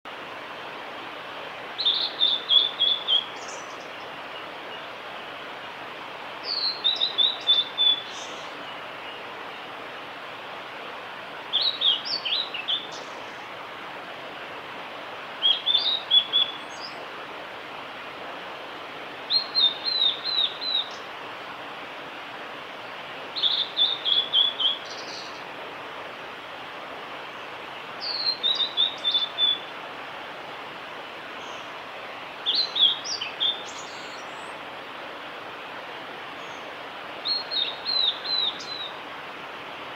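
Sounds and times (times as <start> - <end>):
steady hiss: 0.1 - 39.9.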